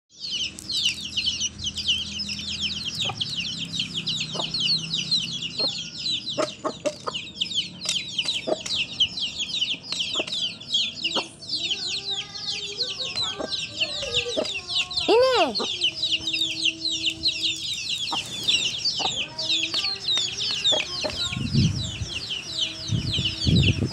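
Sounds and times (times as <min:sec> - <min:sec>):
chicks peeping: 0:00.2 - 0:23.9.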